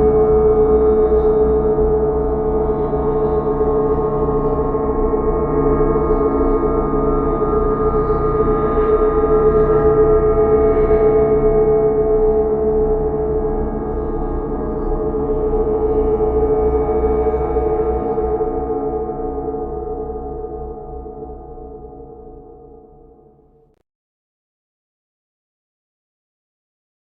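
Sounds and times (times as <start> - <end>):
horror ambient drone: 0.0 - 23.5.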